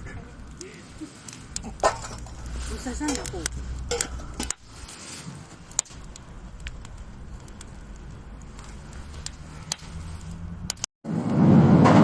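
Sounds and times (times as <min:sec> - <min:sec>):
campfire crackling pops: 0:00.0 - 0:11.5.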